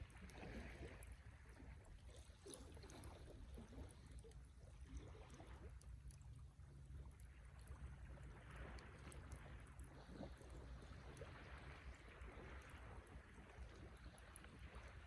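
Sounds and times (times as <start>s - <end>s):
low steady fire noise: 0.0s - 15.0s.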